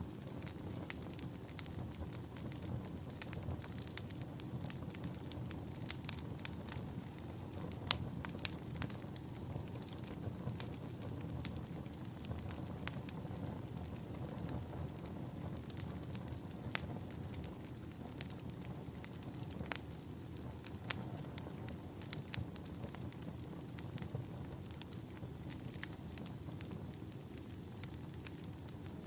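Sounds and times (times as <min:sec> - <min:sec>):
fire crackling with pops: 0:00.0 - 0:29.0
low steady fire rumble: 0:00.0 - 0:29.0.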